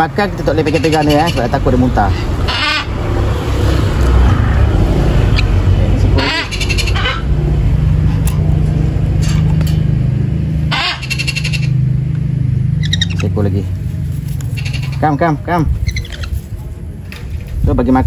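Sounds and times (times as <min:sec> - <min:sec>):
parrot chicks begging calls: 0:00.0 - 0:13.6, 0:14.2 - 0:16.5
steady low hum: 0:00.0 - 0:17.7.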